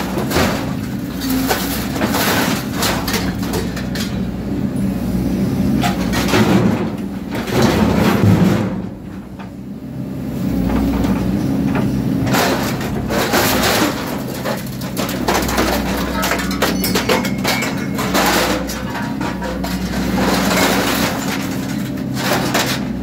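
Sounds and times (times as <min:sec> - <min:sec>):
metal clanks and knocks: 0:00.0 - 0:04.3, 0:05.8 - 0:09.6, 0:10.6 - 0:23.0
excavator engine and hydraulics: 0:00.0 - 0:23.0.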